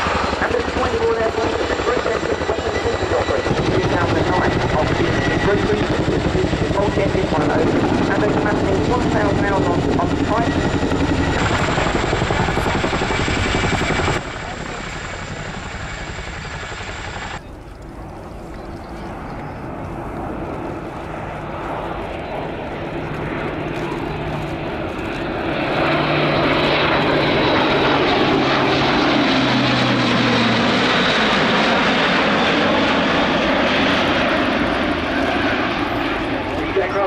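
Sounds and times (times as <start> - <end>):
helicopter rotor noise: 0.0 - 37.0
turboprop plane droning past: 0.0 - 37.0.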